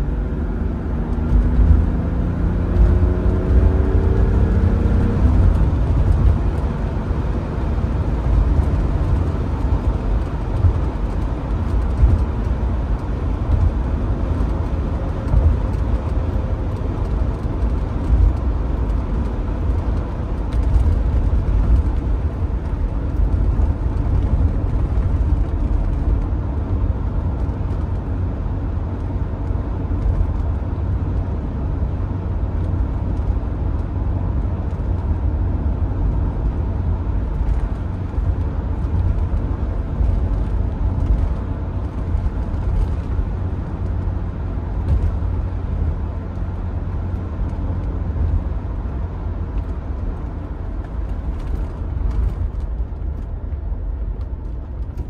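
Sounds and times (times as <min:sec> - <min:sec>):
car engine cruising: 0:00.0 - 0:55.0
tyre and road rumble: 0:00.0 - 0:55.0.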